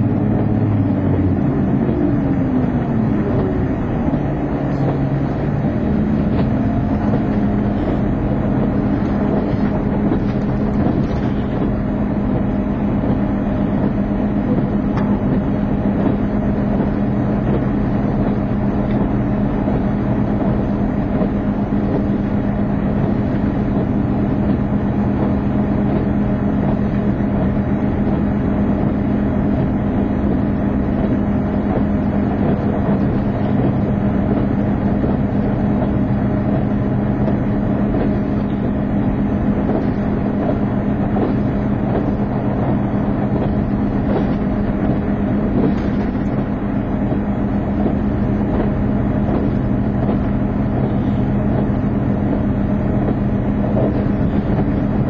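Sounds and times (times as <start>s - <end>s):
diesel train engine hum: 0.0s - 55.0s
train wheels rumbling on rails: 0.0s - 55.0s.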